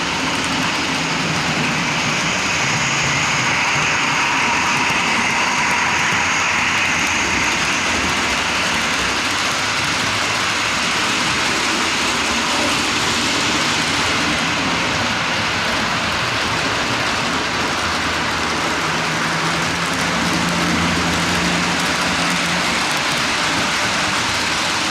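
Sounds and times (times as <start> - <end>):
model train rolling on track: 0.0 - 24.9.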